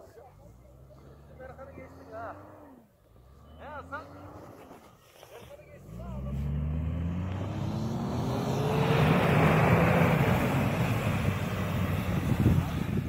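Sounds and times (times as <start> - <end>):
diesel engine revving: 0.0 - 4.8, 5.8 - 13.0
tyres churning through snow: 0.5 - 13.0.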